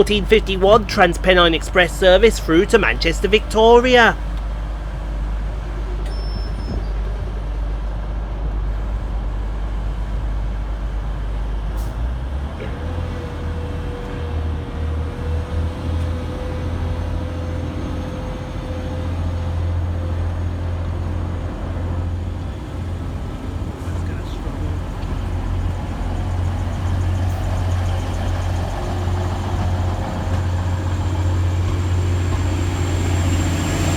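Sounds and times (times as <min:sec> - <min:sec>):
diesel train engines pulling away: 0:00.0 - 0:33.9.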